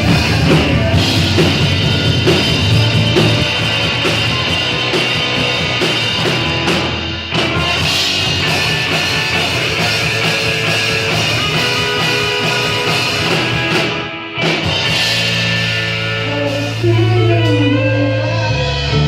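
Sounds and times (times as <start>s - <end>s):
live rock band: 0.0s - 19.0s.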